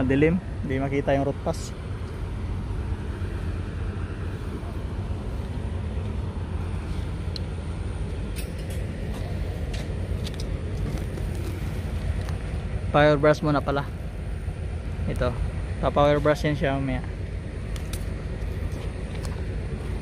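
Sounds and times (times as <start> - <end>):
engine droning steadily: 0.0 - 20.0.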